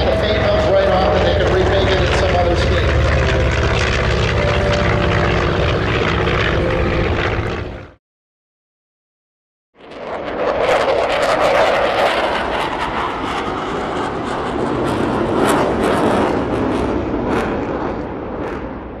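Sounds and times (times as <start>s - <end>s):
propeller fighter plane passing: 0.0s - 8.0s, 9.8s - 18.8s.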